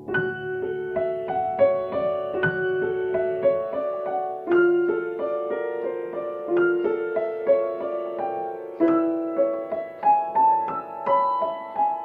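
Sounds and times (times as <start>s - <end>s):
grand piano melody: 0.0s - 12.0s.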